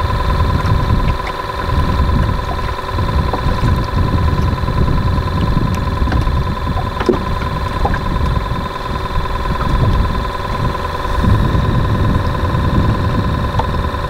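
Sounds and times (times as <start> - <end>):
boat motor whining: 0.0 - 14.0
low rumble: 0.0 - 14.0.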